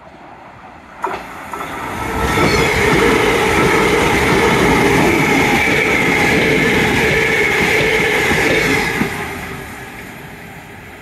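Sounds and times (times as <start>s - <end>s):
train wheels on rails: 0.0s - 11.0s
train whine: 0.0s - 11.0s.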